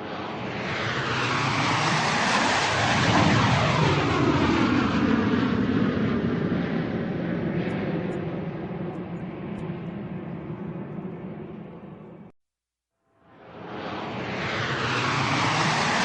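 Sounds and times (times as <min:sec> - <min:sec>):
airplane flying overhead: 0:00.0 - 0:12.3, 0:13.2 - 0:16.0.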